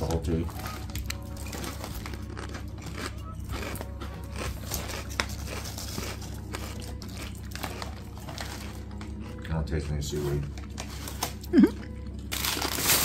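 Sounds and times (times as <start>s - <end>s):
background music: 0.0s - 13.0s
chips crunching while chewed: 0.0s - 13.0s.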